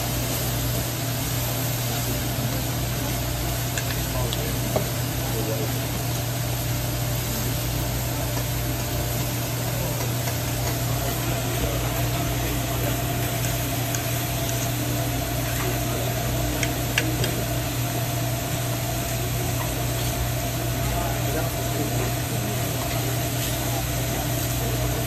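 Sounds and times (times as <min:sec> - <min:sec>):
food sizzling on a griddle: 0:00.0 - 0:25.0.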